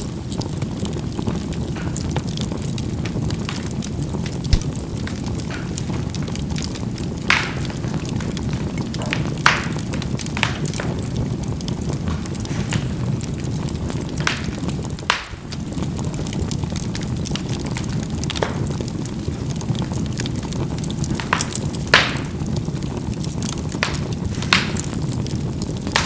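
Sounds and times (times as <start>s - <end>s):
coals popping and crackling: 0.0s - 26.0s
low rumble of fire: 0.0s - 26.0s.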